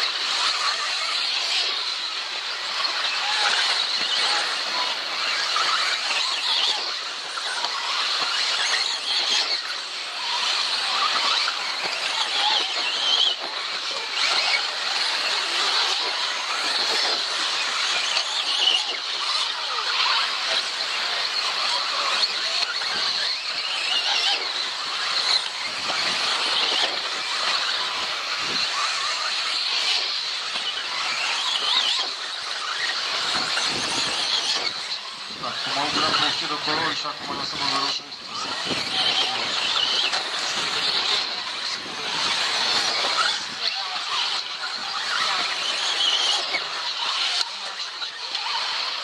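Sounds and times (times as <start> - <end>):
rc car motors whining: 0.0 - 49.0.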